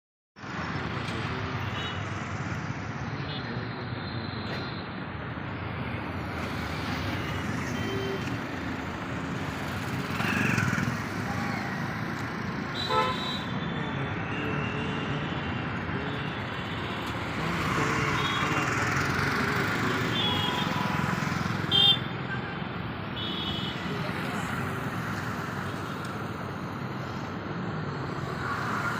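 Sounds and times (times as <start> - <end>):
vehicle noise: 0.4 - 28.9.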